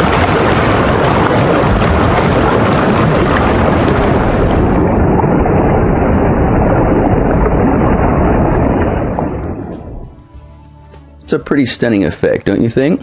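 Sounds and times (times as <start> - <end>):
rushing rumbling noise: 0.0 - 10.5.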